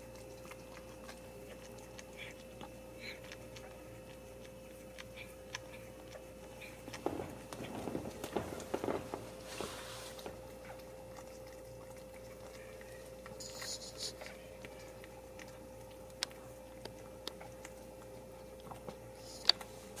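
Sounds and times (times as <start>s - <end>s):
cat licking kittens: 0.0s - 20.0s
faint steady hum: 0.0s - 20.0s.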